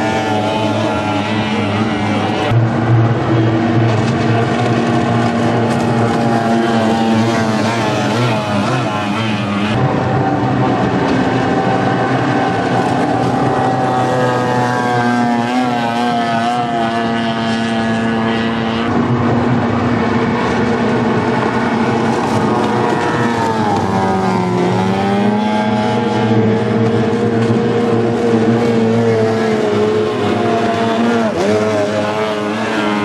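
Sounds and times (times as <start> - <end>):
outboard engines at speed: 0.0 - 33.0.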